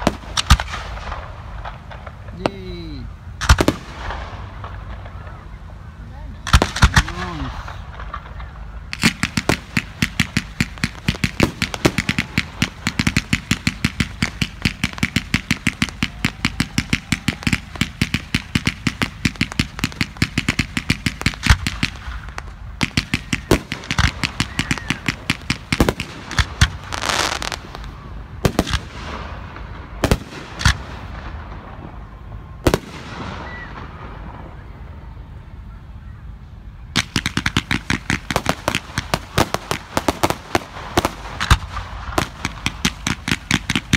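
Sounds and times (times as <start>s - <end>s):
fireworks sharp reports: 0.0s - 43.9s.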